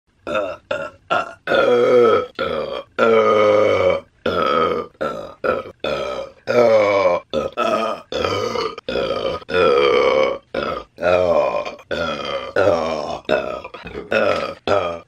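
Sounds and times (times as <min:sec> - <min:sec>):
woman burping: 0:00.2 - 0:15.0.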